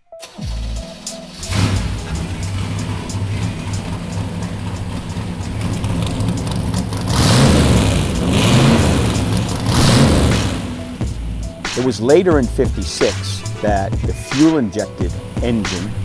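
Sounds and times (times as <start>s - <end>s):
car engine idling and revving: 0.2s - 16.0s.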